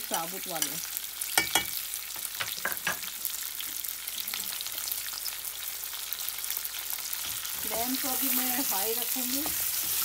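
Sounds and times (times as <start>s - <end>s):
potatoes sizzling in butter: 0.0s - 10.0s.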